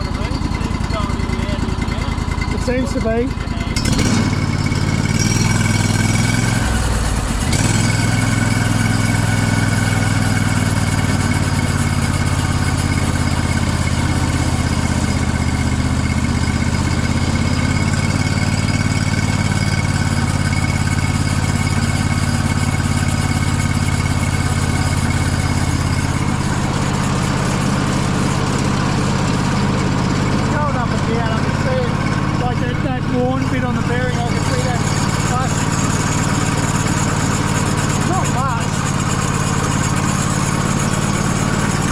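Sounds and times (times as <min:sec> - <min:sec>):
high drive whine: 0:00.0 - 0:41.9
sawmill engine running: 0:00.0 - 0:41.9.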